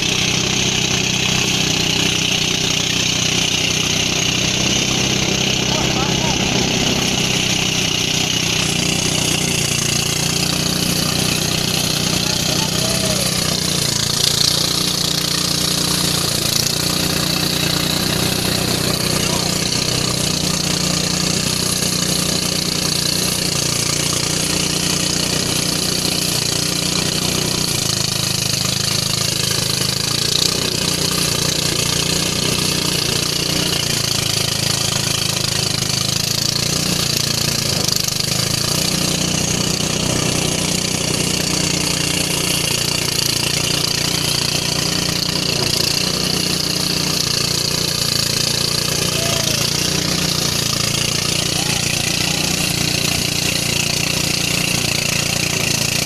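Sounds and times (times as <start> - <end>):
thresher engine drone: 0.0 - 56.0.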